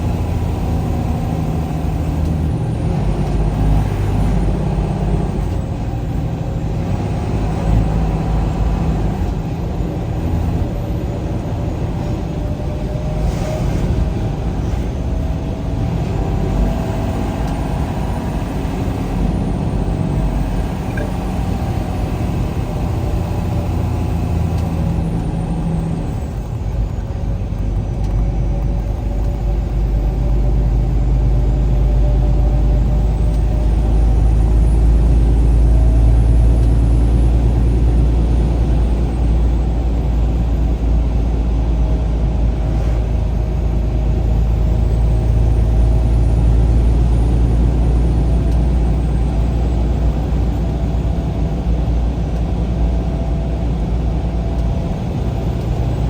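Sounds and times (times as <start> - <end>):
vehicle engine driving at speed: 0.0 - 56.0.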